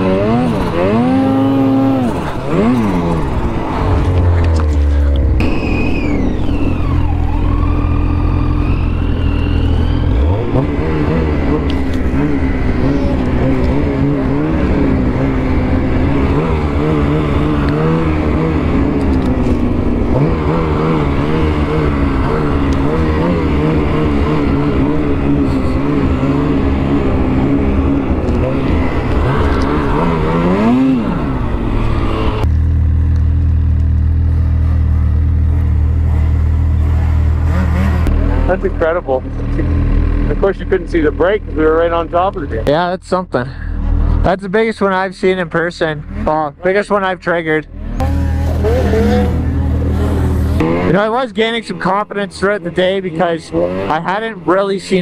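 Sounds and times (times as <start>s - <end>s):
snowmobile engine: 0.0s - 55.0s.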